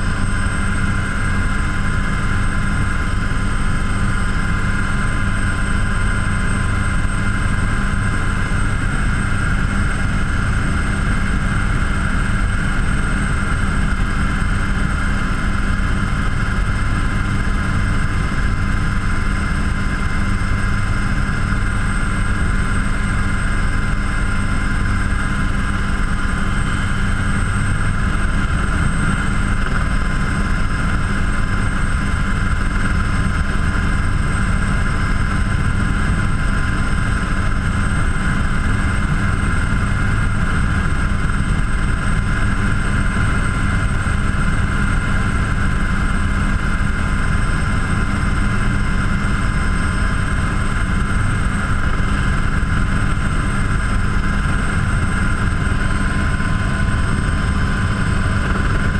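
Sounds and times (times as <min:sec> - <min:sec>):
high turbine whine: 0:00.0 - 0:58.9
low rotor rumble: 0:00.0 - 0:58.9.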